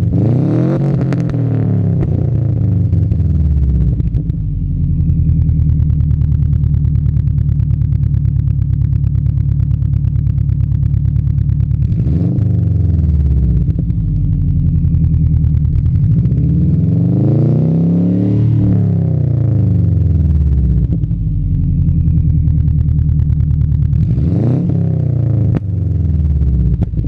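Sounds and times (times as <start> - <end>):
car engine revving: 0.0 - 7.4, 11.2 - 27.0
car engine idling: 1.1 - 17.3, 18.6 - 27.0.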